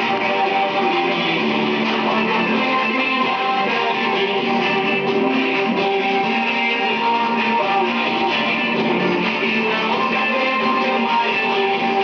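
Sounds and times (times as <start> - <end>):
pop music with strummed guitar: 0.0 - 12.0.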